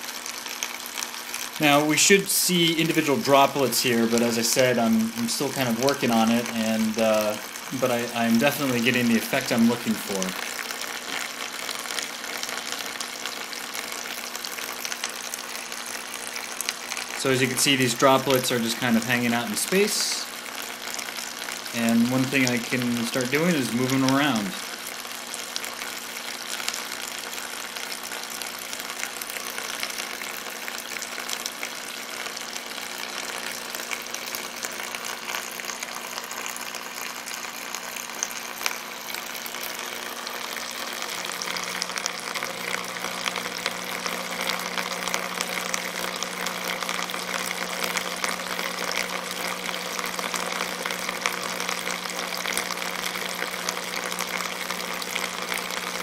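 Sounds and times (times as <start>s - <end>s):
water pump humming: 0.0s - 56.0s
water spraying from fountain: 0.0s - 56.0s.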